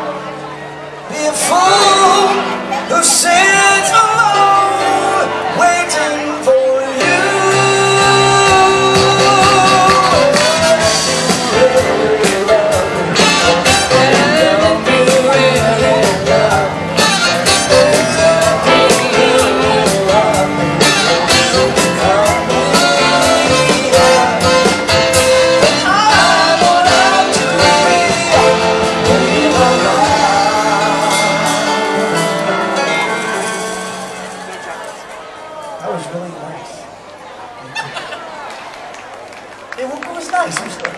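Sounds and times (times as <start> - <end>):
live band playing: 0.0 - 37.0
person singing: 1.1 - 34.3.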